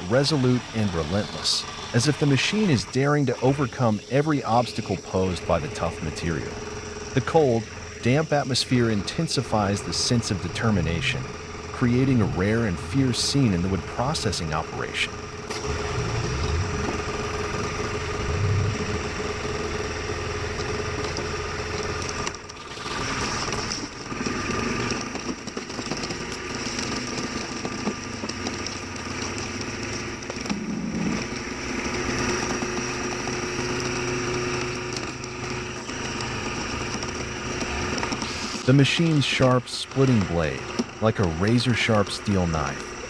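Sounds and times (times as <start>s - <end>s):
wood splitter engine running: 0.0s - 43.0s.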